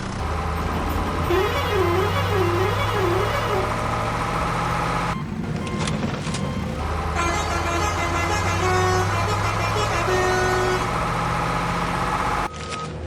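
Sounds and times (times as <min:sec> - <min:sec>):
vehicle engine running: 0:00.0 - 0:12.5
vehicle horn tones: 0:00.6 - 0:12.5.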